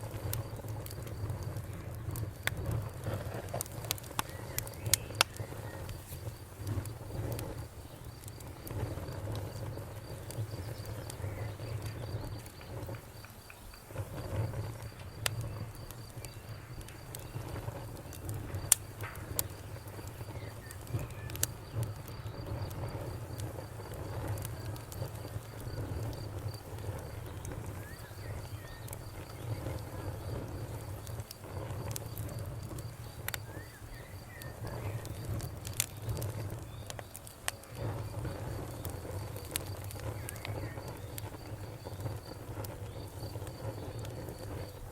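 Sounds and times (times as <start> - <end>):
campfire crackling and popping: 0.0 - 44.9
insect trill: 0.0 - 44.9.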